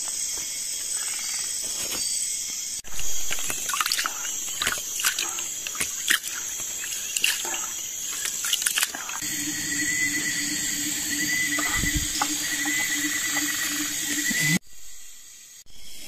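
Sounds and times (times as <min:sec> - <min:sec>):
forest insects chorus: 0:00.0 - 0:16.0.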